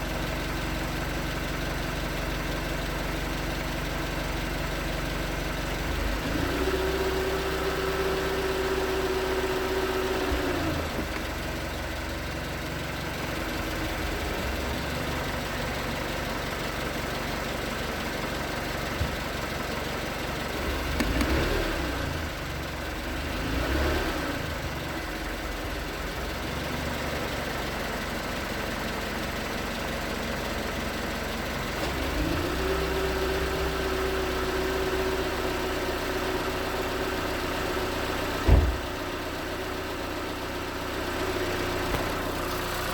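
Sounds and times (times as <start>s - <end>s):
car engine idling with knocking: 0.0s - 42.9s.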